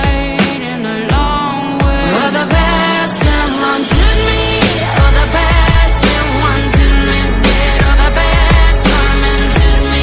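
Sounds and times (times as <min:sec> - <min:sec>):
pop song: 0:00.0 - 0:10.0.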